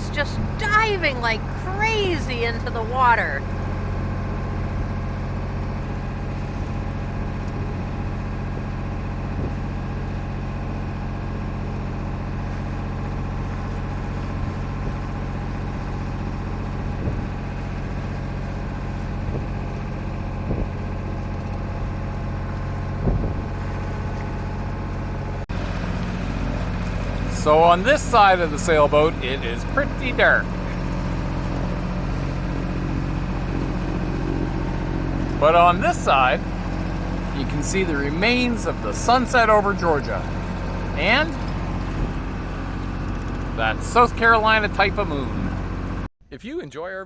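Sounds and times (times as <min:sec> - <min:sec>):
boat engine humming: 0:00.0 - 0:46.1.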